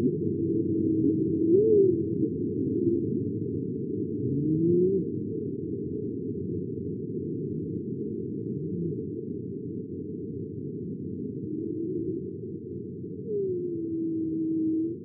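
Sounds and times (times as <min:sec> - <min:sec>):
faint slow gliding tones: 0:00.0 - 0:15.0.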